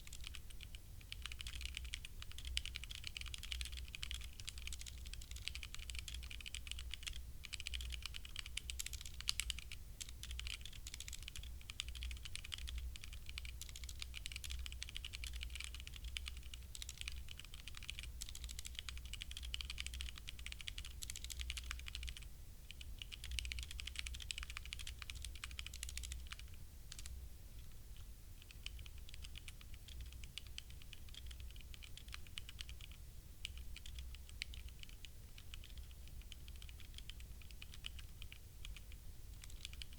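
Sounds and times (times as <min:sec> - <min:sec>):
fast mechanical keyboard typing: 0:00.0 - 0:27.2, 0:28.4 - 0:39.9.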